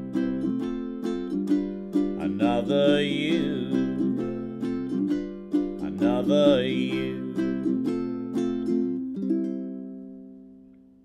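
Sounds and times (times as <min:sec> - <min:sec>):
ukulele strumming: 0:00.0 - 0:11.0.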